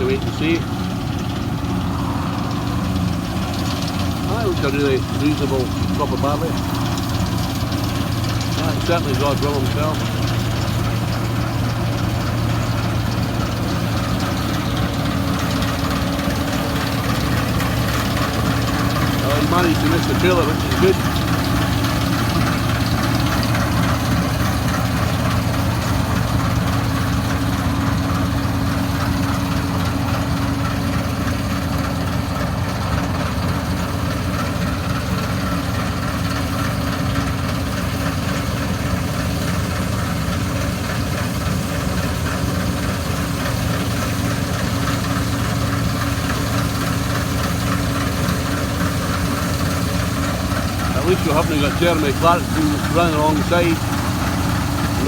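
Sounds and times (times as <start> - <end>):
engine droning steadily: 0.0 - 55.0.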